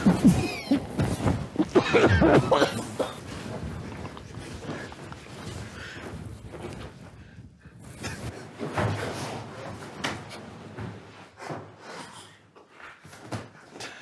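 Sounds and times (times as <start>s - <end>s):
inflatable suits bumping and rustling: 0.0s - 11.9s.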